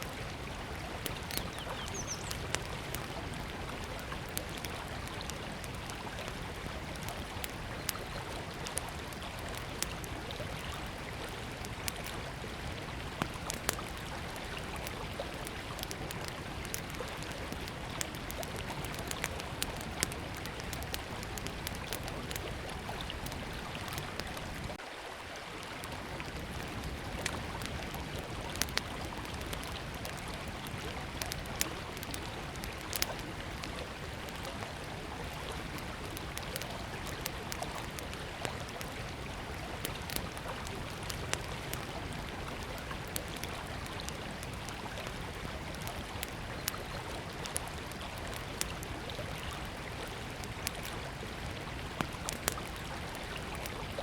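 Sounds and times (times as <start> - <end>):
campfire crackling and popping: 0.0 - 24.8, 25.6 - 54.0.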